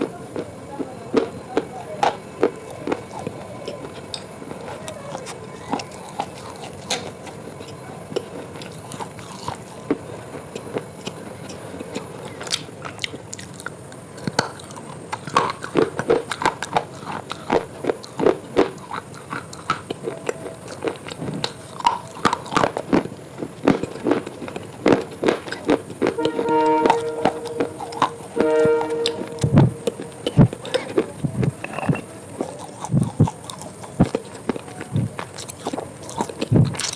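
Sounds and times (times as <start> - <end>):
crunchy biting and chewing: 0.0 - 36.9.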